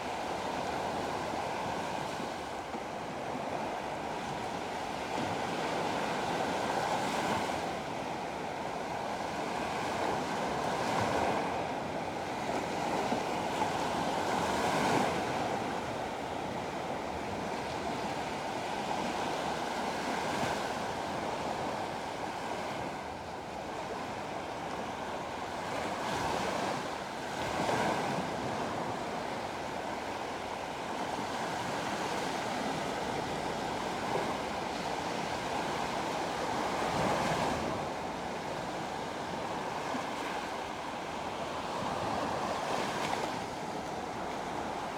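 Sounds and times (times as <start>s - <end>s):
waves breaking on a beach: 0.0s - 44.9s.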